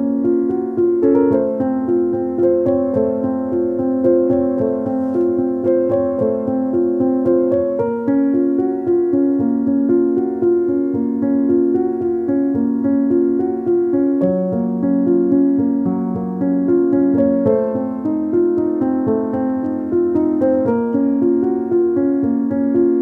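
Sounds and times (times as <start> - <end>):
keyboard music with held chords: 0.0 - 23.0.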